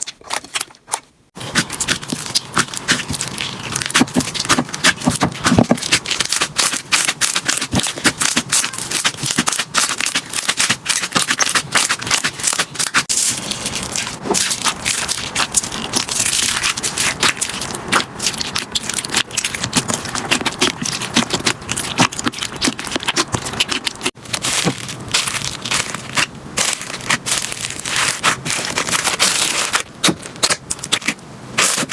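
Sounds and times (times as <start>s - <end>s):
slime crackling and popping: 0.0s - 31.9s.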